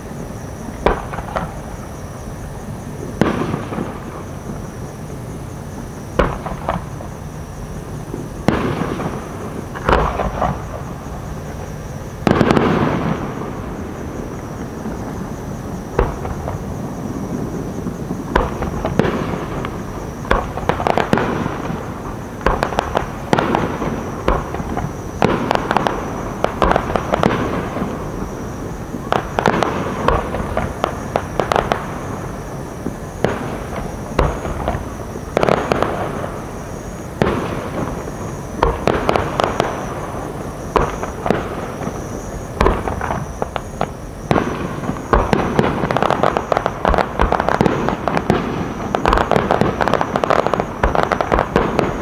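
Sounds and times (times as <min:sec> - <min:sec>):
fireworks bursting: 0:00.0 - 0:52.0
fireworks crackling: 0:00.0 - 0:52.0.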